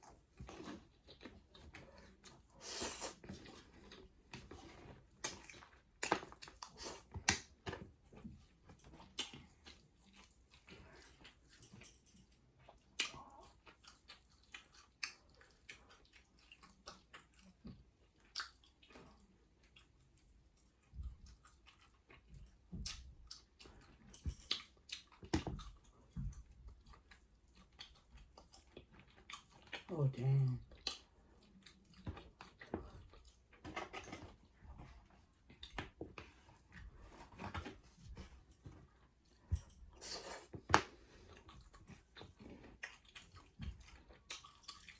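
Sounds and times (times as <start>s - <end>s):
person chewing food: 0.0s - 29.9s, 30.5s - 44.9s.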